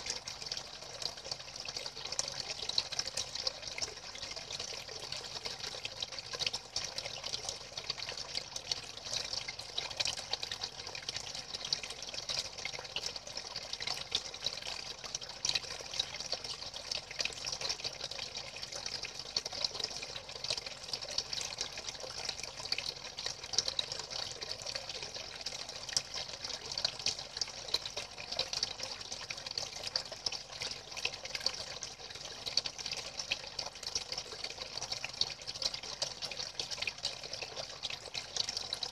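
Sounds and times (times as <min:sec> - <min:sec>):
water jets splashing into pool: 0:00.0 - 0:38.9.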